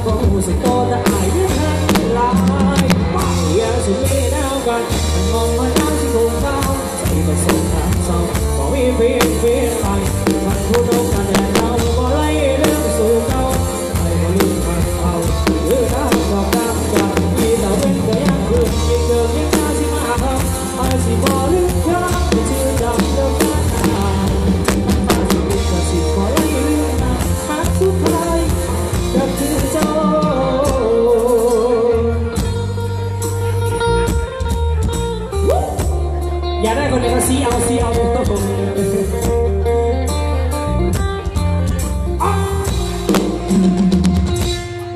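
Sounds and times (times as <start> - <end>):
person singing: 0.0 - 34.4, 35.2 - 44.9
drum kit: 0.0 - 44.9
electric guitar: 0.0 - 44.9
heavy bass: 0.0 - 44.9.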